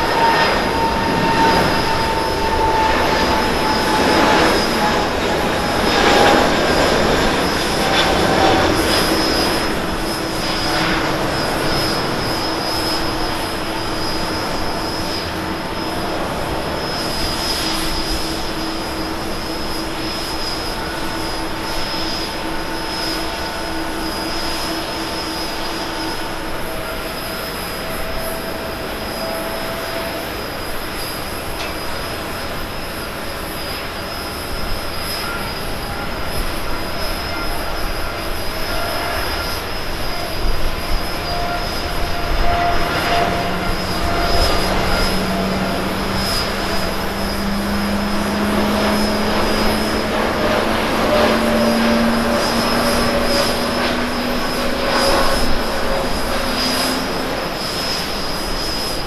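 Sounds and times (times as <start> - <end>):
jet airliner engines at takeoff: 0.0 - 59.0.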